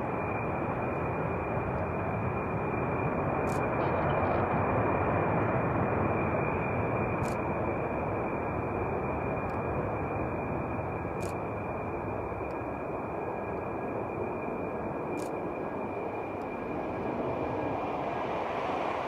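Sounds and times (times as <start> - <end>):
fighter jet engine rumble: 0.0 - 19.0.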